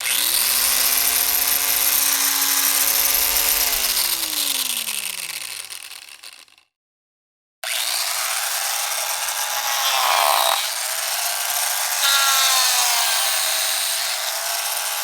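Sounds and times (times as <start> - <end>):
power saw motor whining: 0.0 - 6.6, 7.6 - 15.0.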